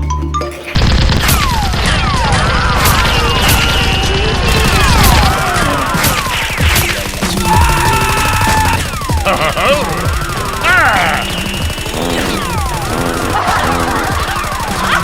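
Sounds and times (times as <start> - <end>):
background music: 0.0 - 1.1, 3.4 - 15.0
rapid gunfire: 0.8 - 15.0.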